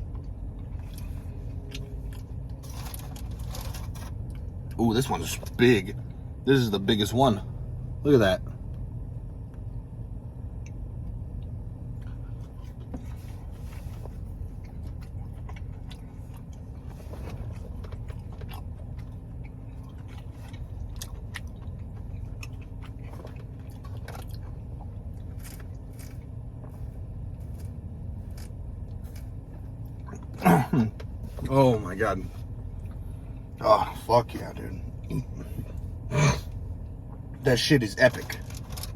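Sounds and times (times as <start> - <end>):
chewing and crunching: 0.0 - 6.1, 10.6 - 38.9
steady low hum: 0.0 - 38.9.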